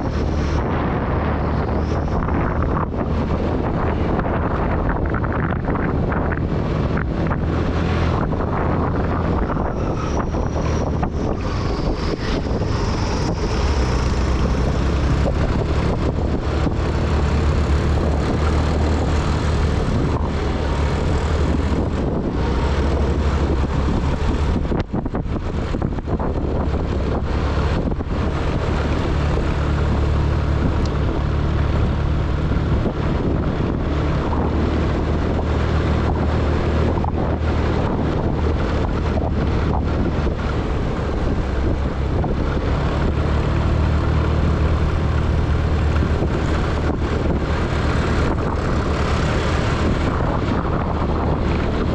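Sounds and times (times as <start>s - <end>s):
vehicle engine running: 0.0s - 51.9s
wind noise on microphone: 0.0s - 51.9s.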